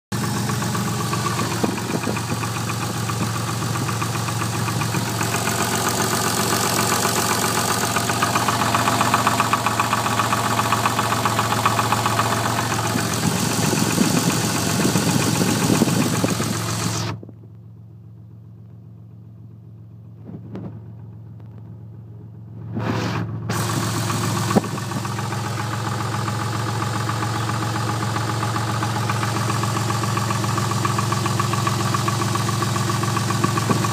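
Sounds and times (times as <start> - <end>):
car engine idling with knock: 0.1 - 33.9.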